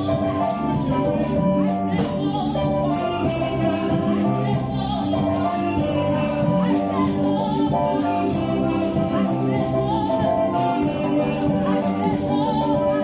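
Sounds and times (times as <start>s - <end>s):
choir singing over instruments: 0.0s - 13.0s
hand percussion beat: 0.0s - 13.0s.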